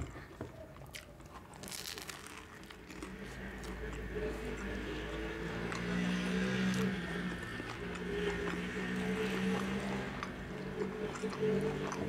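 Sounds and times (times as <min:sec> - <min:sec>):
chewing bread: 0:00.0 - 0:12.0.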